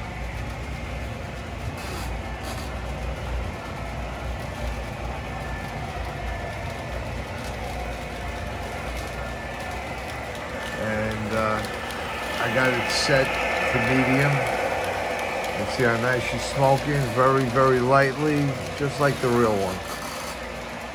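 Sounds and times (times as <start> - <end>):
model trains rumbling on track: 0.0 - 20.9.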